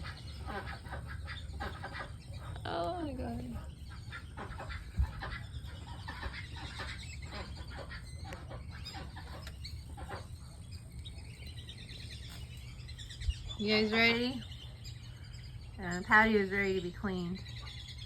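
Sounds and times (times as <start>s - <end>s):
ducks chirping and clucking: 0.0s - 18.0s
steady low hum: 0.0s - 18.0s.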